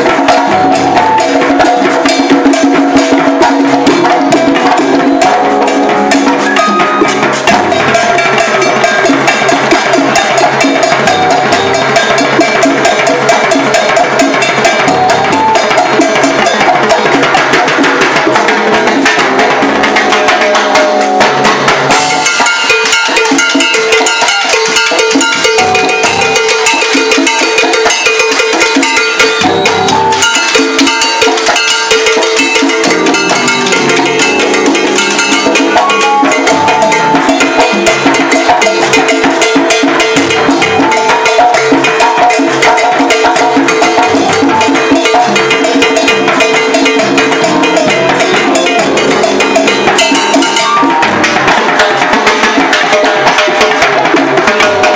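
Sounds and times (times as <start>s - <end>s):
salsa band playing: 0.0s - 54.9s.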